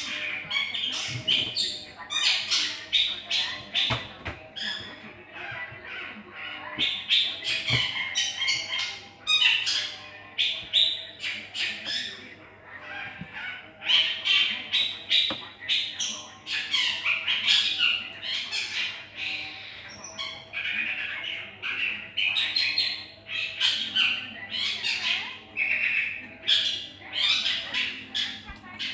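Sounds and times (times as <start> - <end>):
birds calling harshly: 0.0 - 28.9.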